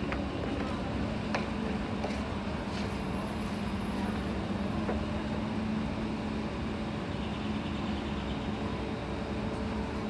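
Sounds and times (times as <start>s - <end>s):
train humming at standstill: 0.0s - 10.0s.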